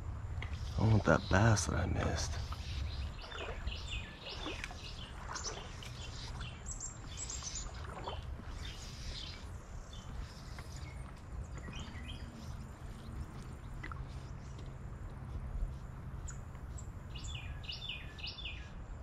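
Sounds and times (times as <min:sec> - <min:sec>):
songbirds chirping: 0:00.0 - 0:19.0
steady low rumble: 0:00.0 - 0:19.0.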